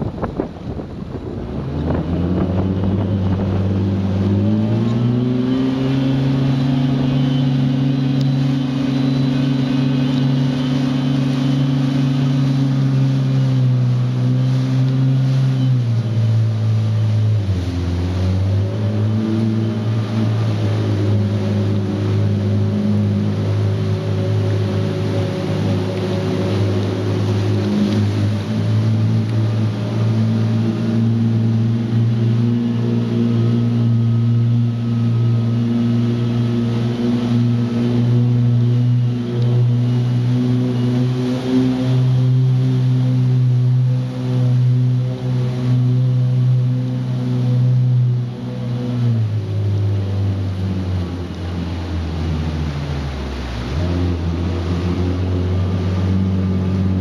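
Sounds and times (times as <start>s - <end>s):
jet ski engine revving: 0.0s - 57.0s.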